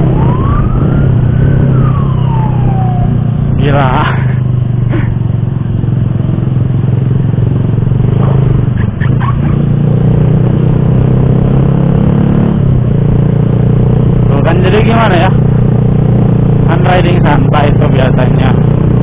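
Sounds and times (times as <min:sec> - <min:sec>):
motorcycle engine running: 0:00.0 - 0:19.0
road and wind noise: 0:00.0 - 0:19.0.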